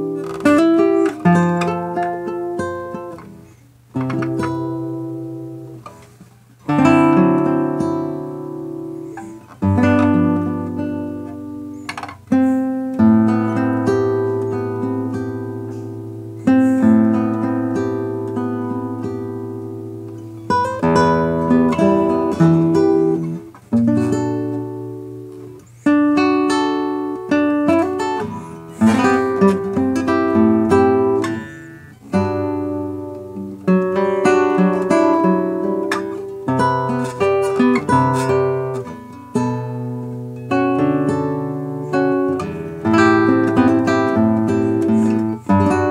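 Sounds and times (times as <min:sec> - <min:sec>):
solo classical guitar: 0:00.0 - 0:45.9.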